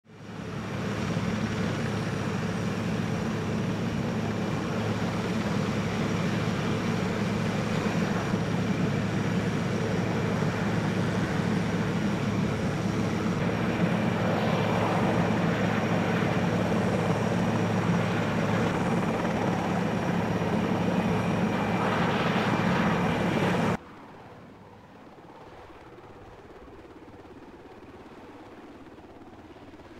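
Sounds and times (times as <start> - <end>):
helicopter rotor and turbine: 0.0 - 29.9.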